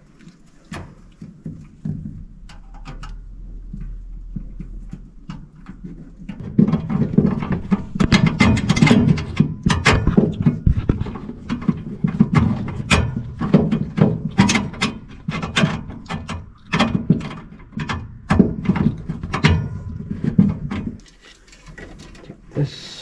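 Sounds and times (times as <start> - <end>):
low rumbling handling noise: 0.0 - 22.6.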